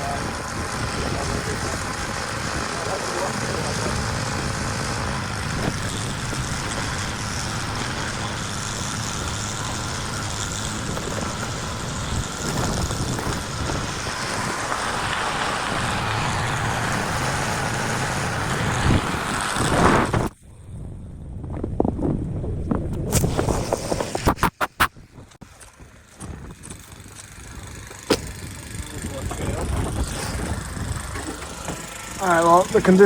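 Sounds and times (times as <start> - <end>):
steady rumbling: 0.0 - 33.0.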